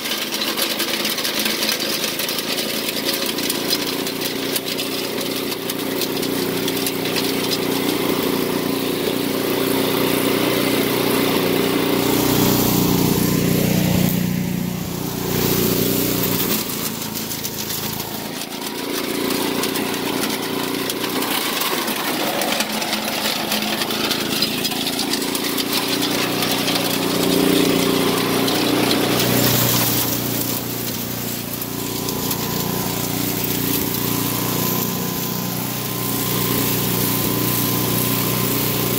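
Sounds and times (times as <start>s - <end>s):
wood chipper engine under load: 0.0s - 38.9s.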